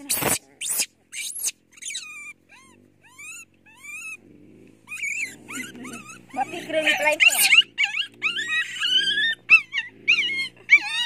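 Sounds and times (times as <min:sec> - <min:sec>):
infant monkey crying: 0:00.0 - 0:04.3, 0:04.9 - 0:11.0.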